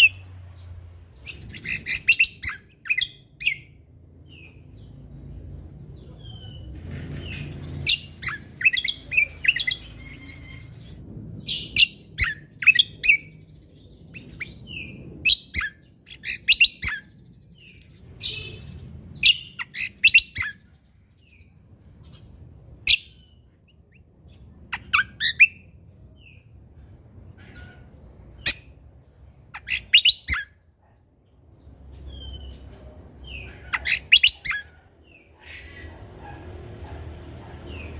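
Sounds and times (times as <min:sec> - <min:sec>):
bird chirping and trilling: 0:00.0 - 0:05.3, 0:06.0 - 0:26.5, 0:27.3 - 0:30.7, 0:31.6 - 0:36.0.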